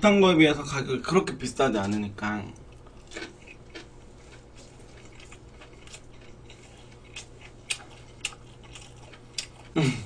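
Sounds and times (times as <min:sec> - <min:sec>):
steady low hum: 0:00.0 - 0:10.0
chewing with small crunches: 0:01.7 - 0:10.0.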